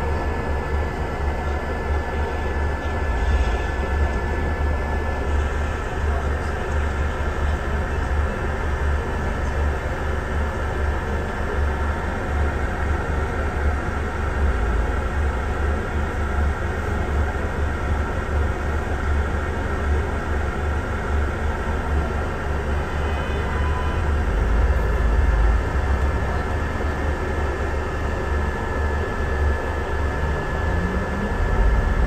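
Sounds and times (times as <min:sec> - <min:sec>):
bus engine rumble: 0:00.0 - 0:32.0.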